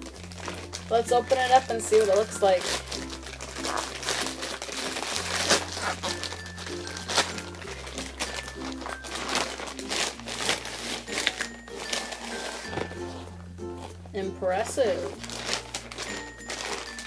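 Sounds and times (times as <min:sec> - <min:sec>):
background music with slow bass: 0:00.0 - 0:17.0
plastic mailer bag crinkling: 0:00.0 - 0:17.0.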